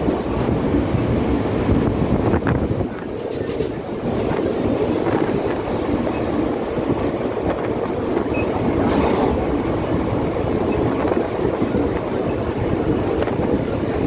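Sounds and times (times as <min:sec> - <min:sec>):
train wheels rumbling on rails: 0:00.0 - 0:14.0
wheels clicking over rail joints: 0:00.0 - 0:14.0.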